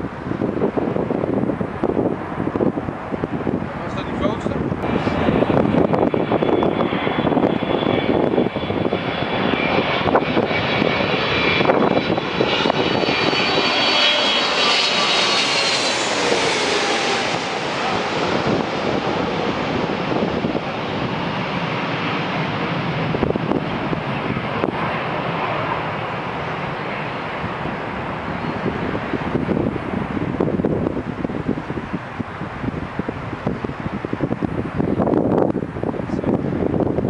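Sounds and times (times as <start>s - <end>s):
high turbine whine: 0.0s - 37.0s
jet engine rumble: 0.0s - 37.0s.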